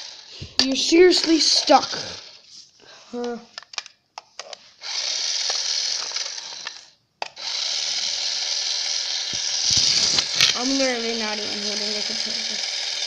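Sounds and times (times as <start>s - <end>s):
small electric motor whirring: 0.0s - 2.5s, 4.8s - 13.0s.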